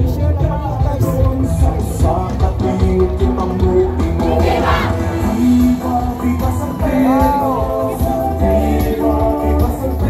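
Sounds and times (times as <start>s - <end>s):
loud music with heavy bass: 0.0s - 10.0s.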